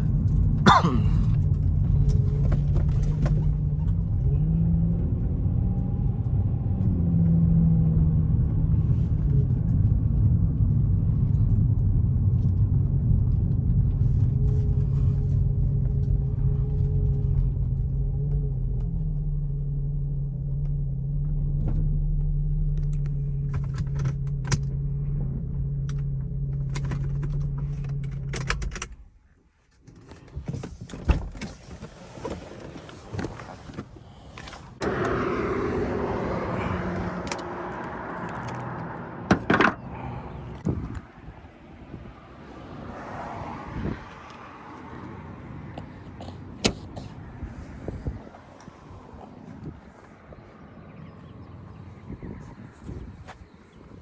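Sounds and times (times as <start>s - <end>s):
car engine low rumble: 0.0s - 54.0s.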